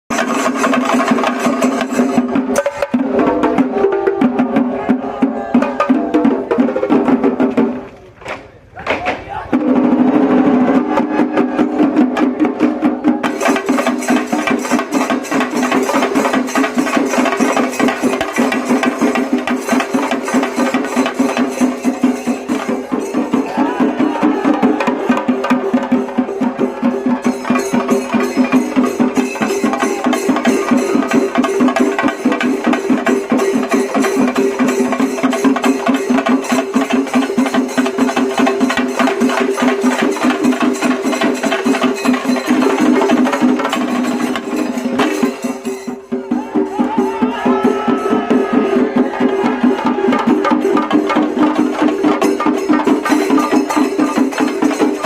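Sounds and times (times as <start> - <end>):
fast clacking percussion beat: 0.1 - 55.0.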